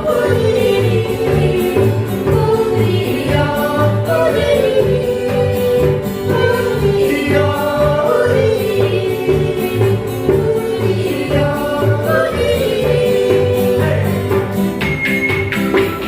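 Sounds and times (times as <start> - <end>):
group of people singing: 0.0 - 15.1
instrumental accompaniment: 0.0 - 16.0.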